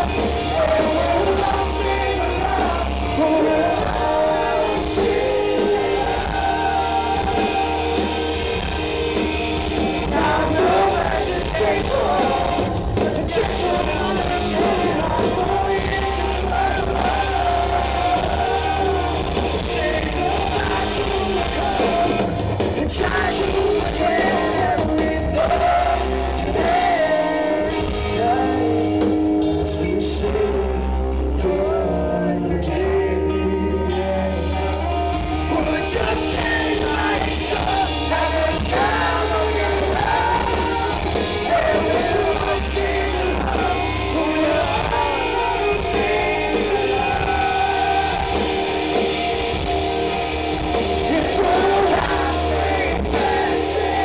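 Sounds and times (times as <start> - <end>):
live rock band playing: 0.0 - 54.0
male lead singer: 0.0 - 54.0.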